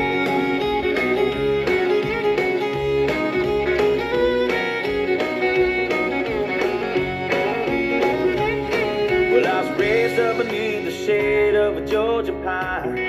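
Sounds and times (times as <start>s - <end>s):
fiddle playing: 0.0s - 11.7s
country band instrumental: 0.0s - 13.0s.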